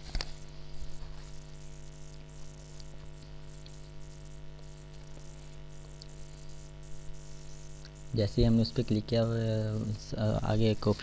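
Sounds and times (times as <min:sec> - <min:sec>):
electrical hum: 0:00.0 - 0:11.0
microphone hiss: 0:00.0 - 0:11.0.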